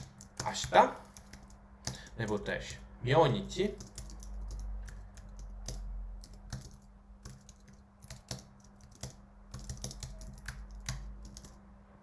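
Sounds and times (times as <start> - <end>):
typing on computer keyboard: 0.0 - 2.9, 3.6 - 11.6
faint steady hum: 0.0 - 12.0.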